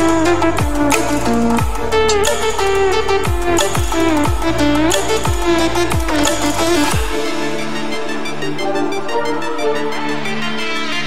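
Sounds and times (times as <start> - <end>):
electronic music chords: 0.0 - 11.0.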